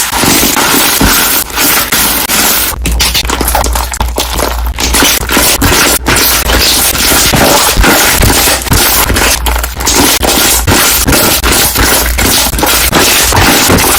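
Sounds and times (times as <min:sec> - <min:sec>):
slime bubbles popping: 0:00.0 - 0:13.9.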